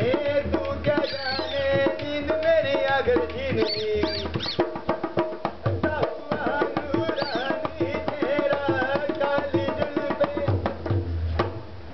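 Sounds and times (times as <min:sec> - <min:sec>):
hand drum rhythm: 0:00.0 - 0:11.8.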